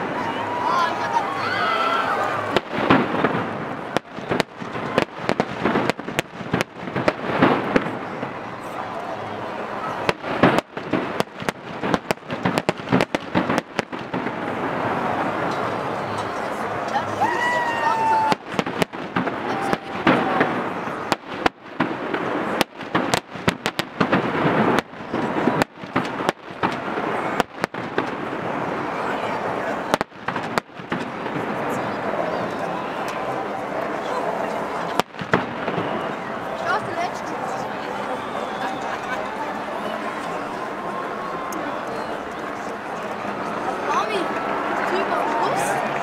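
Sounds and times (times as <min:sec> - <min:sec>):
firecrackers banging: 0:00.0 - 0:46.0.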